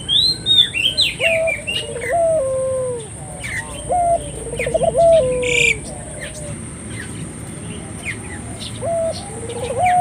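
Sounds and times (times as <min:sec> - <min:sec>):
dove cooing: 0:00.0 - 0:07.2, 0:08.0 - 0:10.0
small birds chirping: 0:00.0 - 0:10.0.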